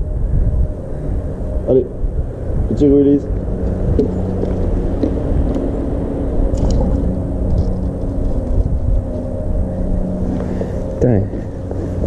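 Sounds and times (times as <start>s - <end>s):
faint engine hum: 0.0s - 12.0s
low rumble of road traffic: 0.0s - 12.0s.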